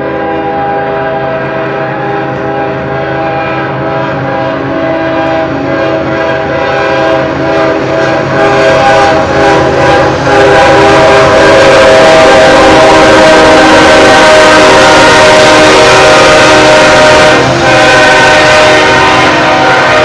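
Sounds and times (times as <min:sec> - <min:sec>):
locomotive air horn: 0:00.0 - 0:20.0
locomotive engine and wheels rumbling: 0:00.0 - 0:20.0.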